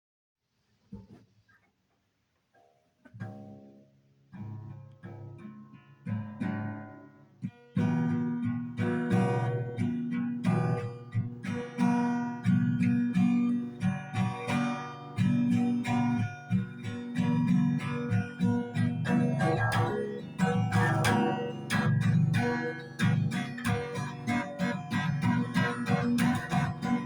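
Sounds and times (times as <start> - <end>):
acoustic guitar plucking and strumming: 2.6 - 27.0.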